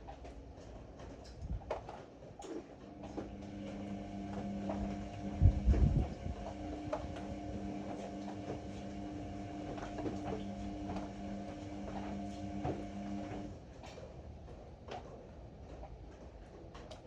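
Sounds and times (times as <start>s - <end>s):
washing machine motor hum: 2.4s - 17.0s.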